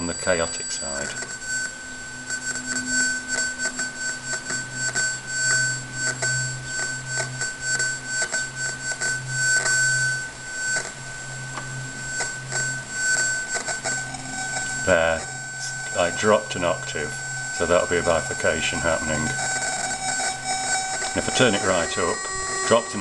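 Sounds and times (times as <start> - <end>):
buzzy square-wave tone: 0.0 - 23.0
electronic crackle: 0.0 - 23.0.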